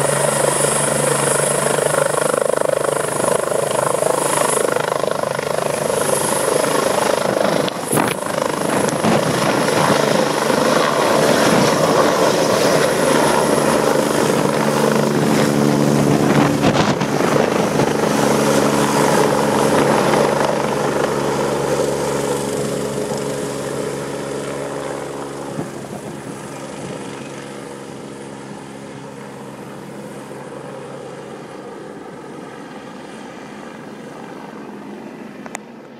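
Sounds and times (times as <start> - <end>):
helicopter rotor and turbine: 0.0 - 35.9.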